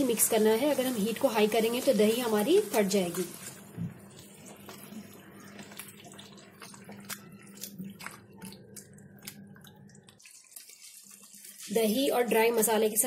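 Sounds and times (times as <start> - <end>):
wet stirring sounds: 0.0 - 13.0.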